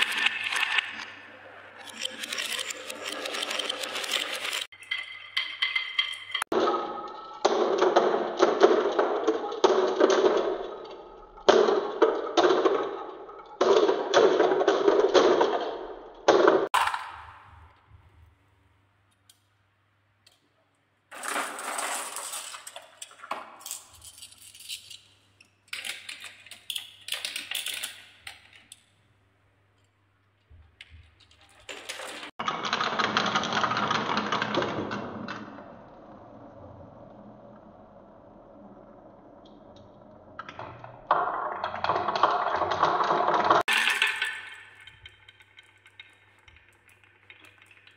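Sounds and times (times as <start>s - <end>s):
glass marbles rolling on wooden track: 0.0s - 17.5s, 21.1s - 28.8s, 30.9s - 35.8s, 38.3s - 47.9s.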